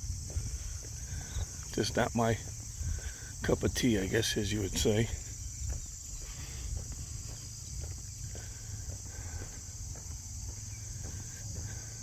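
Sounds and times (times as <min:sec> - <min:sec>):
footsteps on gravel: 0:00.0 - 0:12.0
insects droning: 0:00.0 - 0:12.0.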